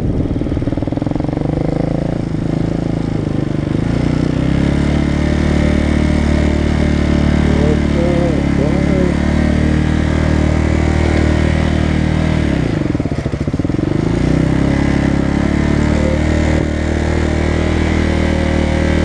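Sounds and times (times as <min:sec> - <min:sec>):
motorcycle engine idling: 0:00.0 - 0:17.8.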